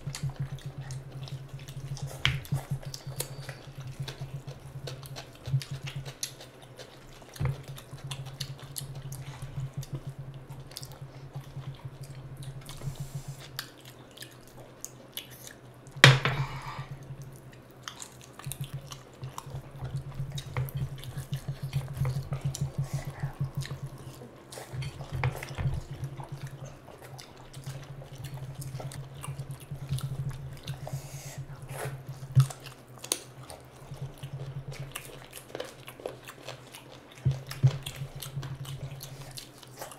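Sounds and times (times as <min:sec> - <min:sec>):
chewing: 0:00.0 - 0:39.9.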